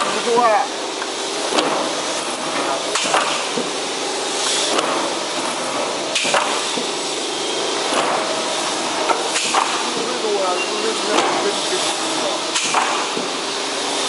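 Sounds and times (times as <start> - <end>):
shearing machine running: 0.0 - 14.0.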